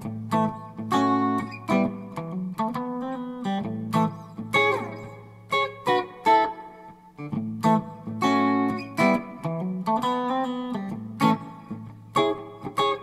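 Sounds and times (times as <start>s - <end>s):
clean electric guitar: 0.0s - 13.0s.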